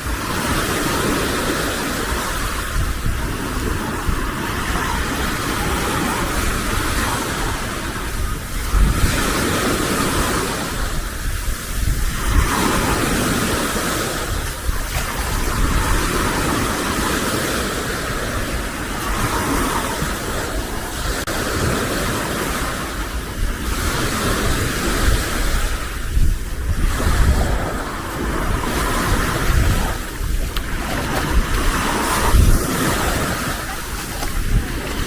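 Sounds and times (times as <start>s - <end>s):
surf washing onto beach: 0.0s - 35.0s
wind rumbling on microphone: 0.0s - 35.0s.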